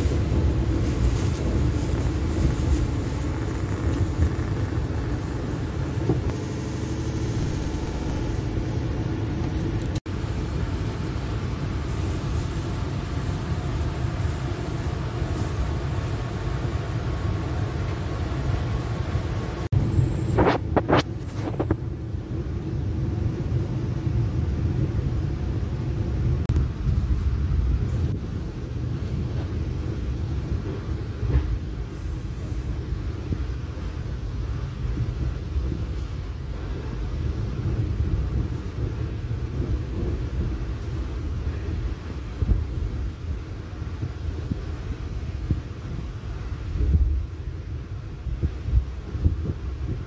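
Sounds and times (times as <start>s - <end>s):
train rumbling on track: 0.0s - 50.0s.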